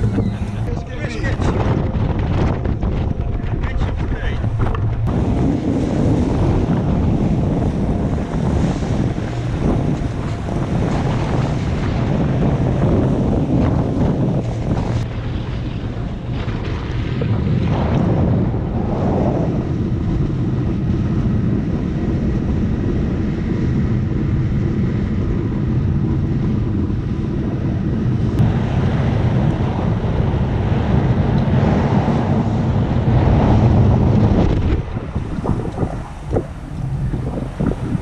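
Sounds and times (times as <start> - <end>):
water rushing along hull: 0.0 - 38.0
wind buffeting microphone: 0.0 - 38.0.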